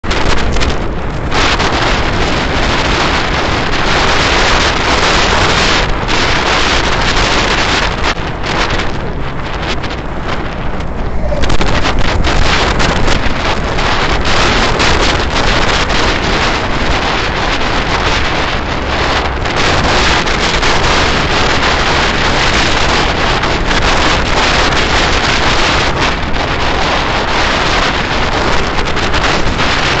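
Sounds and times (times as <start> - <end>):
wind rush on microphone: 0.0 - 30.0.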